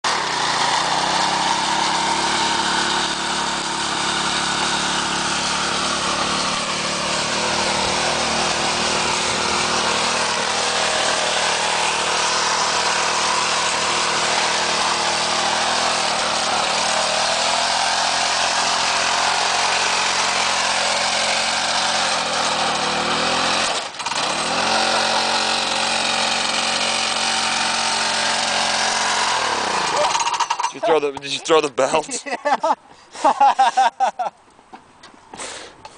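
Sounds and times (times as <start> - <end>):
lawn mower engine running: 0.0 - 32.6.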